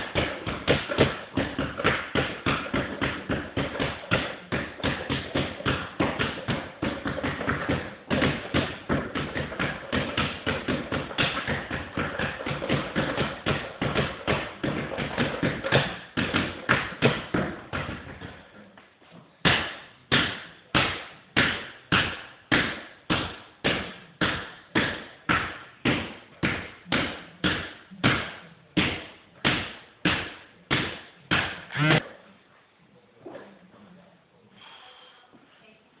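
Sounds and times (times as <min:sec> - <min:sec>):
basketball bouncing on hardwood floor: 0:00.0 - 0:18.5, 0:19.4 - 0:32.0.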